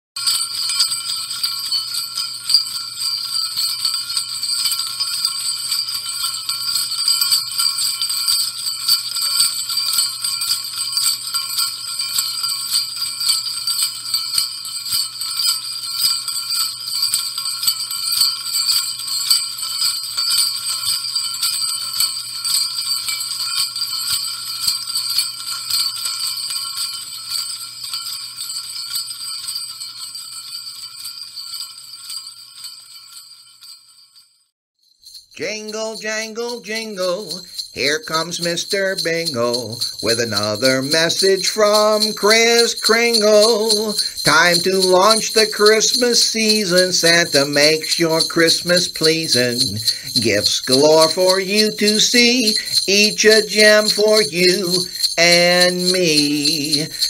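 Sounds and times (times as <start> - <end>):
jingle bells shaken: 0.2 - 57.0.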